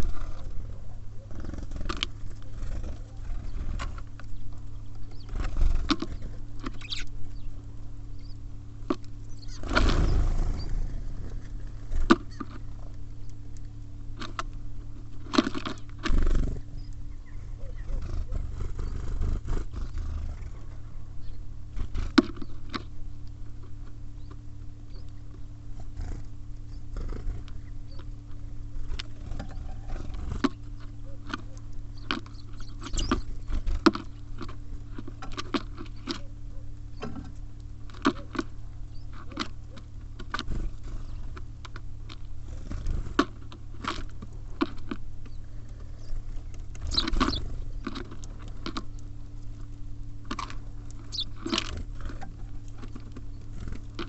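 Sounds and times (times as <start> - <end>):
birds pecking at feeder: 0.0 - 54.0
steady low hum: 0.0 - 54.0.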